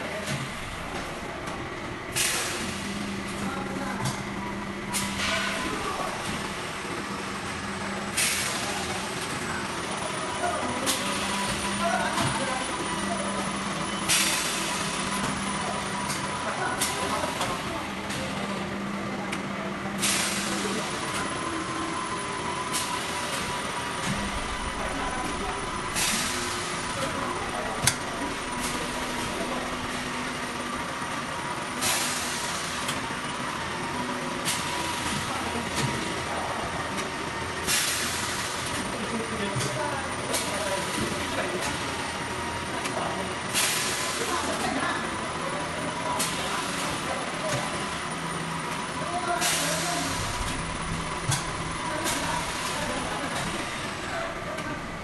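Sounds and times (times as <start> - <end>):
machine mechanical hum: 0.0 - 55.0.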